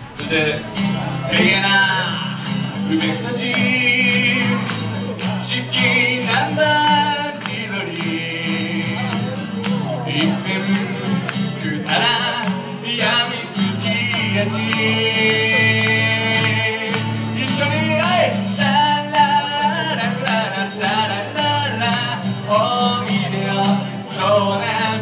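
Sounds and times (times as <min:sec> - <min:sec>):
man singing into a microphone: 0:00.0 - 0:25.0
strummed acoustic guitar: 0:00.0 - 0:25.0.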